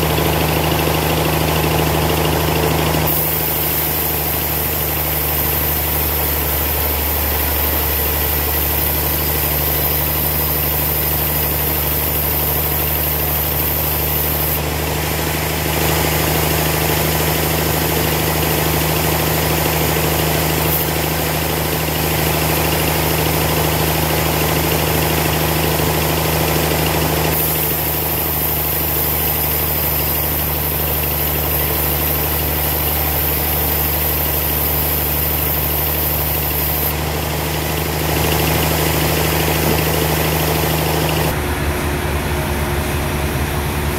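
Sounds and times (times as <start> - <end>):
band saw cutting log: 0.0 - 41.4
motor hum: 0.0 - 43.9.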